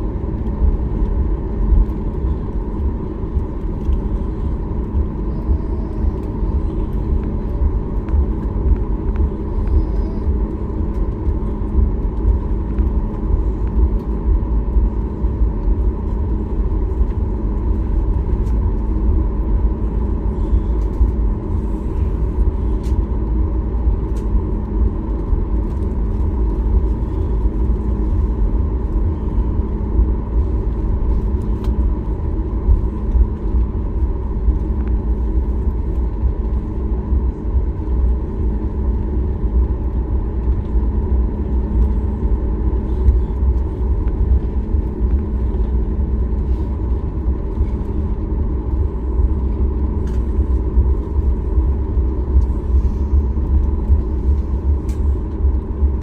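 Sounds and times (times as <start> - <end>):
airplane cabin rumble: 0.0 - 56.0
faint steady hum: 0.0 - 56.0.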